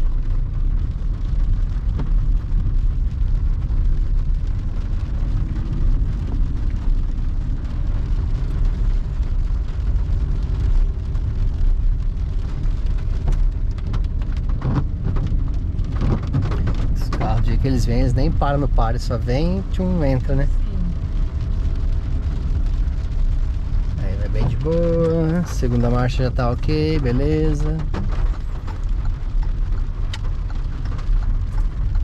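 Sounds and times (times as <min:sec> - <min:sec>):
car engine rumble: 0:00.0 - 0:32.0
tyres on a wet road: 0:00.0 - 0:32.0.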